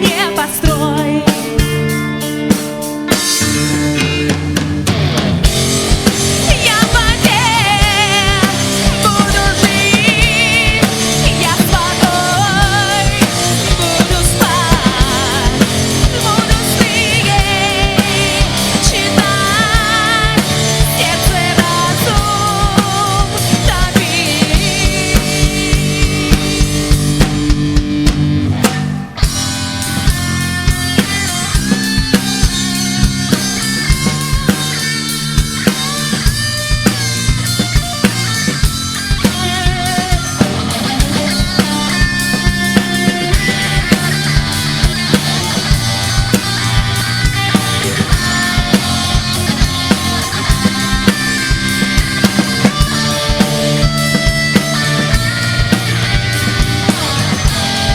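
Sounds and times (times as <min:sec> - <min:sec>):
bass guitar: 0:00.0 - 0:57.9
drum kit: 0:00.0 - 0:57.9
electric guitar: 0:00.0 - 0:57.9.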